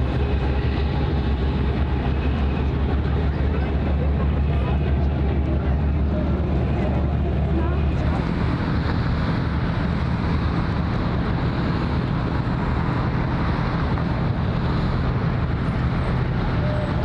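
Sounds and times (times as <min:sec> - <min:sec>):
low engine drone: 0:00.0 - 0:17.0
wind noise on microphone: 0:00.0 - 0:17.0.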